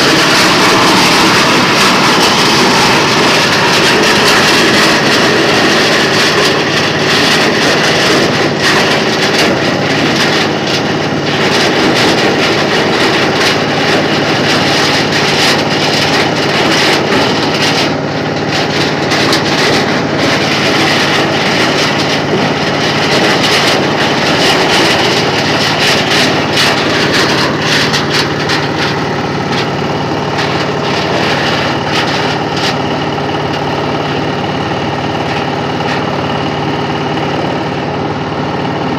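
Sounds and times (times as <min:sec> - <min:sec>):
rattle of clicks and knocks: 0:00.0 - 0:37.6
machine drone: 0:00.0 - 0:38.9.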